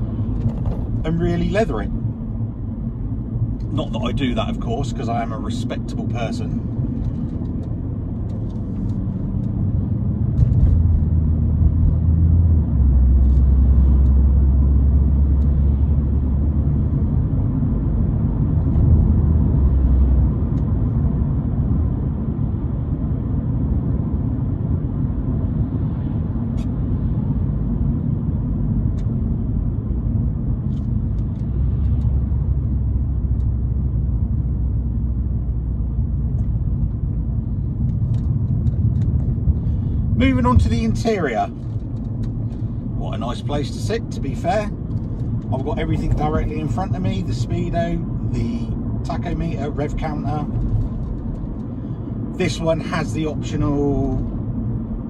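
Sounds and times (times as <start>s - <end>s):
car engine drone in cabin: 0.0s - 55.0s
road noise: 0.0s - 55.0s.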